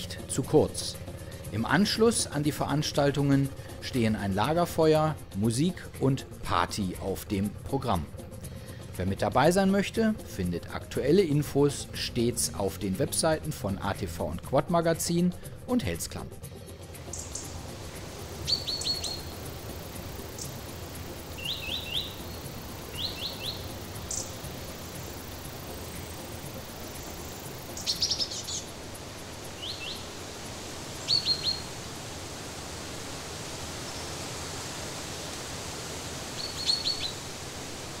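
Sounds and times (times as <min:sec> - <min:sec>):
forest background hiss: 0:00.0 - 0:38.0
songbirds chirping: 0:00.0 - 0:38.0.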